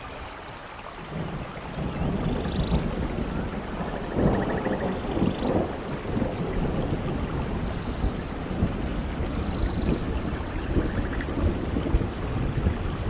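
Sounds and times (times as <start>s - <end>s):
steady rainfall: 0.0s - 13.0s
thunder rumbling: 1.1s - 13.0s.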